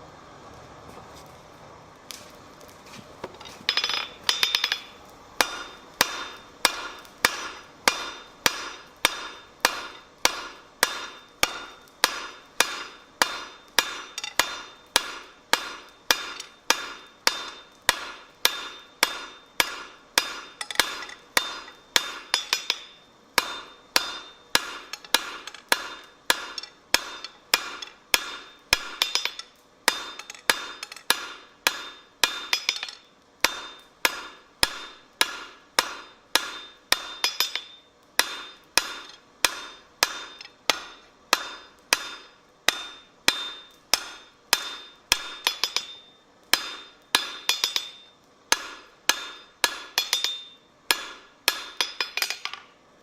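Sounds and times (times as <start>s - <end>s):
hammer striking steel on anvil: 3.7s - 52.7s.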